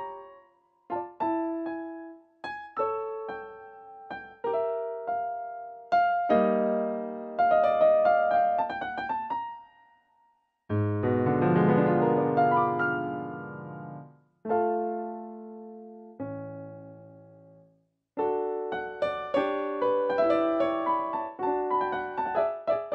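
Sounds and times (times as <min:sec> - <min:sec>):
solo piano playing: 0:00.0 - 0:09.7, 0:10.7 - 0:17.6, 0:18.2 - 0:22.9.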